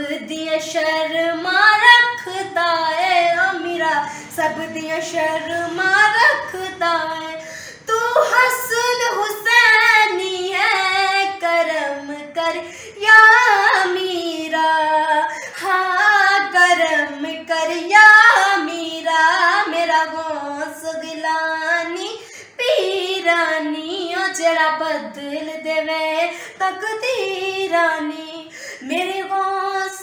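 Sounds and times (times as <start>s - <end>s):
woman singing unaccompanied: 0.0s - 30.0s.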